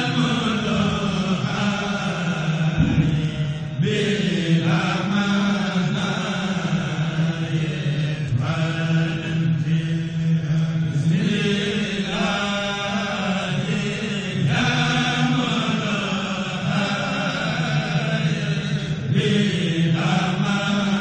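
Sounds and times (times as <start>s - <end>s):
voices chanting religious poem: 0.0s - 21.0s.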